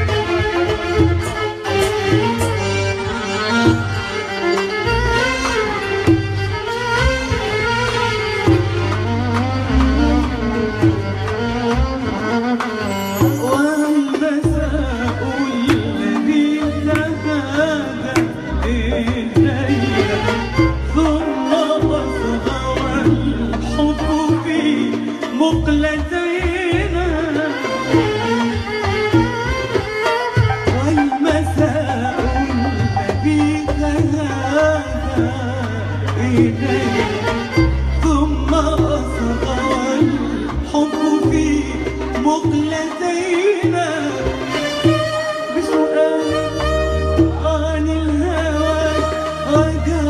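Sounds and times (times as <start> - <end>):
deep bass notes: 0.0 - 13.6, 14.4 - 50.0
hand drum strokes: 0.0 - 50.0
violin: 0.0 - 50.0.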